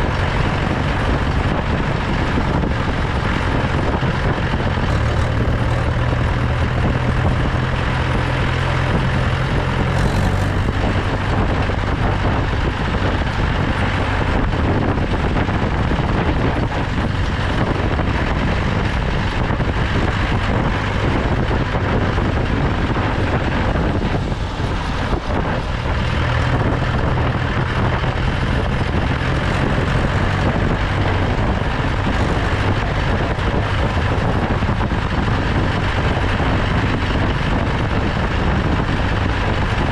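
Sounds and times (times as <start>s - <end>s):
road and wind noise: 0.0s - 39.9s
tractor diesel engine running: 0.0s - 39.9s.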